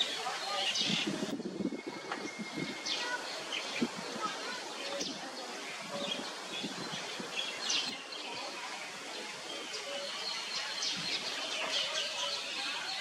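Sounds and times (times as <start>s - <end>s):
birds chirping: 0.0s - 13.0s
outdoor background noise: 0.0s - 13.0s.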